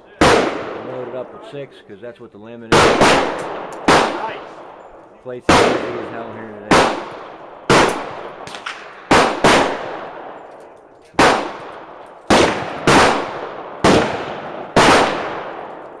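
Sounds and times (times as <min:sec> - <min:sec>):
faint gunshots: 0:00.1 - 0:01.5, 0:02.7 - 0:10.5, 0:11.1 - 0:16.0
gunshots with echo: 0:00.1 - 0:01.5, 0:02.7 - 0:10.5, 0:11.2 - 0:16.0.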